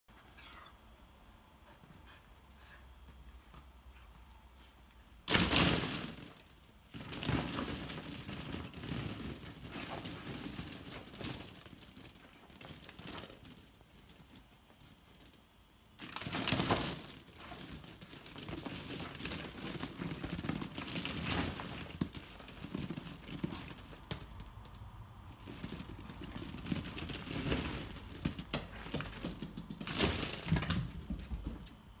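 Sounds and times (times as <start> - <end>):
plastic balls clattering: 5.1 - 32.0.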